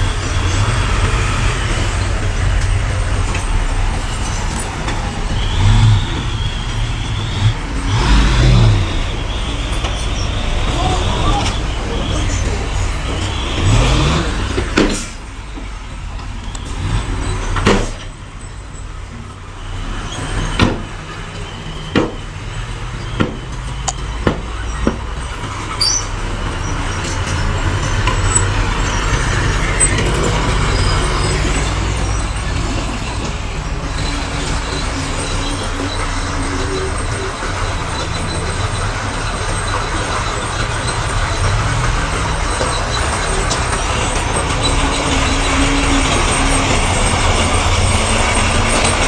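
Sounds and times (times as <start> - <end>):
heavy machinery engine rumbling: 0.0 - 49.0.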